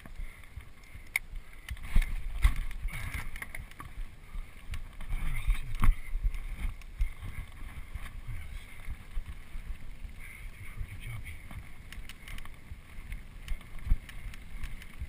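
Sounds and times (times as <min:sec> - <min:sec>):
bike knocking and rattling: 0:00.0 - 0:15.0
wind on camera: 0:00.0 - 0:15.0.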